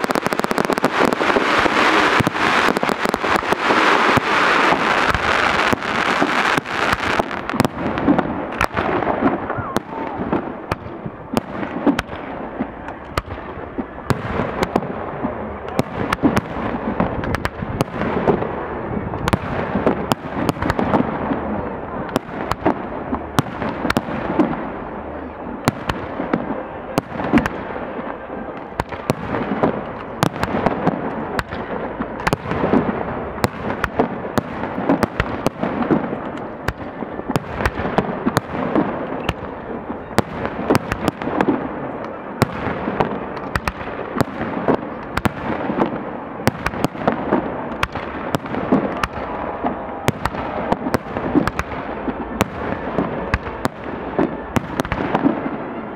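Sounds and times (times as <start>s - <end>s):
fireworks cracks and pops: 0.0s - 18.4s, 28.6s - 55.5s.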